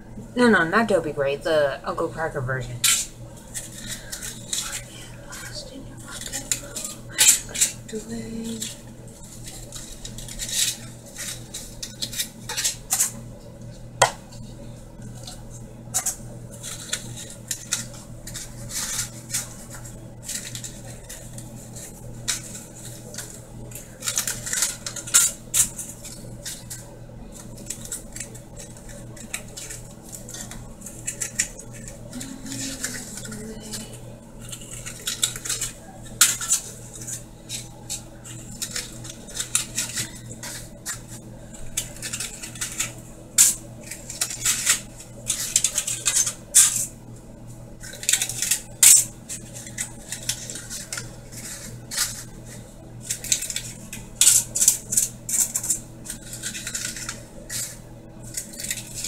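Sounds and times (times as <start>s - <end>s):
low steady hum: 0.0s - 59.0s
utensils and dishes clinking: 2.2s - 13.2s, 15.1s - 46.9s, 47.8s - 59.0s.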